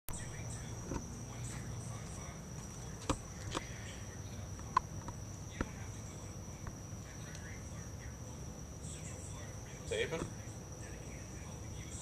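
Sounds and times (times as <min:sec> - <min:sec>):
crickets chirping: 0:00.1 - 0:12.0.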